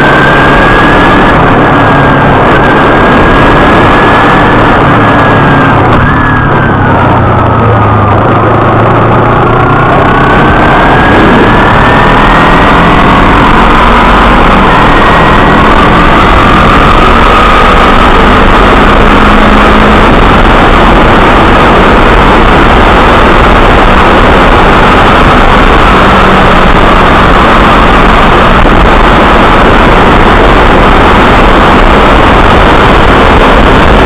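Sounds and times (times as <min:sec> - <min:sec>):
motorcycle engine cruising: 0:00.0 - 0:34.0
wind rushing on microphone: 0:00.0 - 0:34.0.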